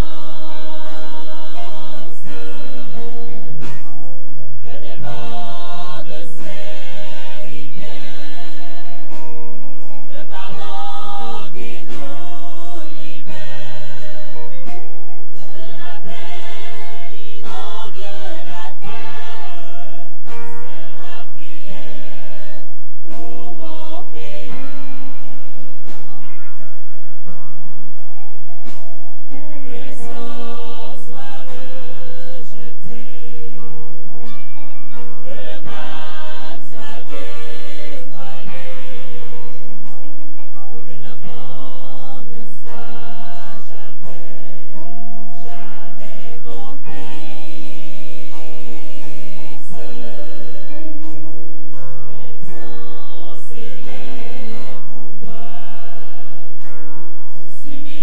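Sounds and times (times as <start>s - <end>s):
gospel choir with instruments: 0.0s - 27.6s, 28.6s - 58.0s.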